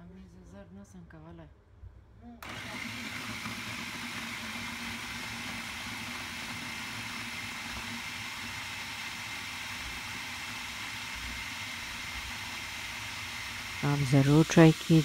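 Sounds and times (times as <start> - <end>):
food chopper whirring: 2.4 - 15.0
low motor hum: 2.4 - 15.0.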